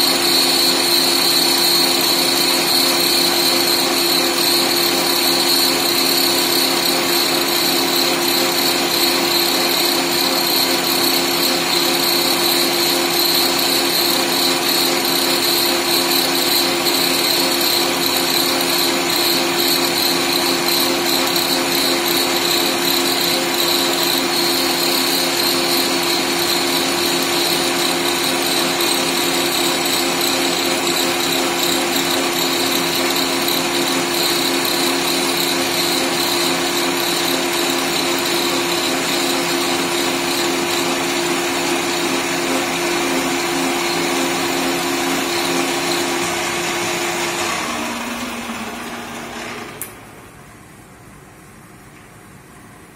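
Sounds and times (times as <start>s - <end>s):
lathe cutting metal: 0.0s - 49.5s
motor whine: 0.0s - 49.8s.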